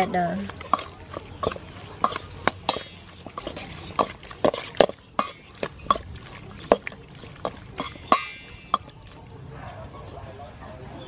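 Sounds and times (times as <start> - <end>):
taps and clinks against metal bowl: 0.0 - 9.2
wet squelching: 0.0 - 9.4.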